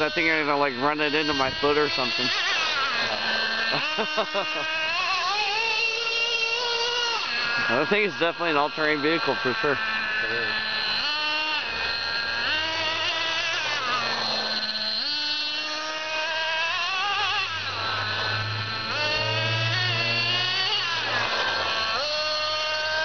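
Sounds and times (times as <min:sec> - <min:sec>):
toy truck motor revving: 0:00.0 - 0:23.0.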